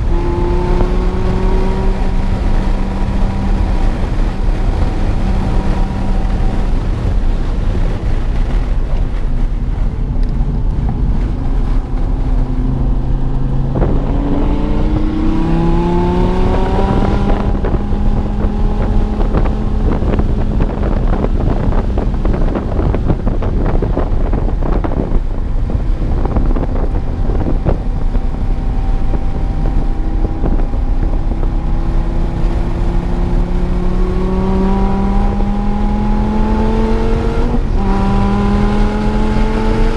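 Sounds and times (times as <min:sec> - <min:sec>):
sports car engine revving hard: 0:00.0 - 0:07.9, 0:11.6 - 0:39.9.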